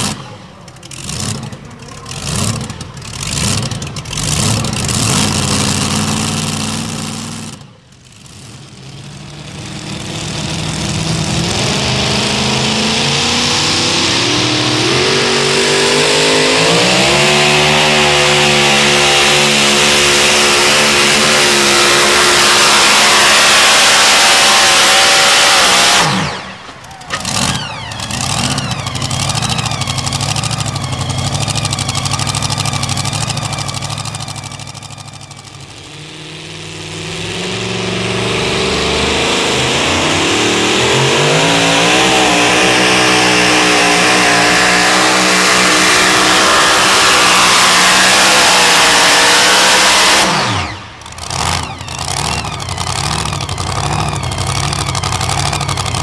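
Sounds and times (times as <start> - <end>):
pulling truck engines running hard: 0.0 - 56.0.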